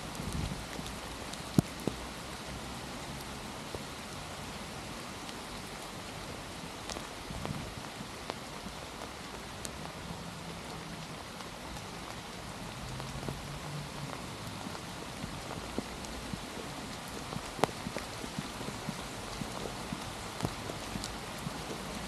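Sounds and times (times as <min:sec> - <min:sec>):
rain drops ticking: 0:00.0 - 0:22.0
steady rain hiss: 0:00.0 - 0:22.0.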